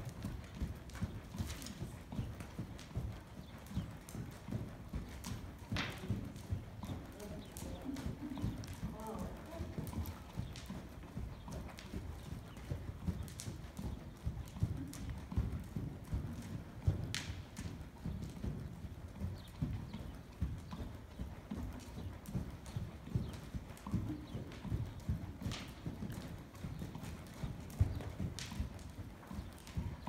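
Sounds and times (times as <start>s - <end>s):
horses trotting on dirt: 0.0s - 30.0s.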